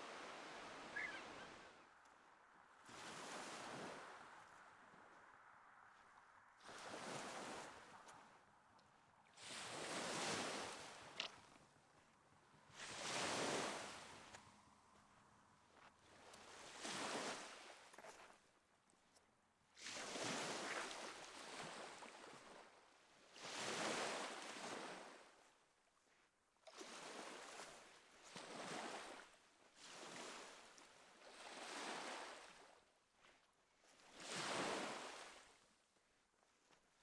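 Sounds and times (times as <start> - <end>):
waves breaking on shore: 0.0 - 18.5, 19.8 - 25.5, 26.7 - 35.6.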